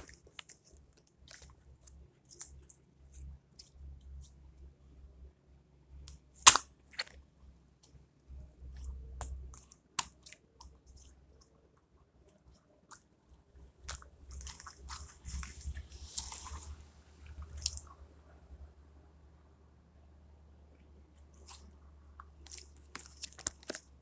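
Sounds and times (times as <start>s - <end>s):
slime squishing: 0.0s - 5.3s, 6.0s - 18.5s, 20.8s - 24.0s.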